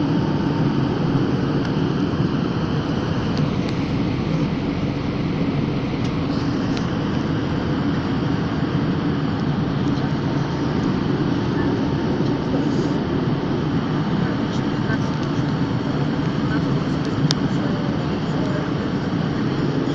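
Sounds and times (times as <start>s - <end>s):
airplane cabin drone: 0.0s - 19.9s.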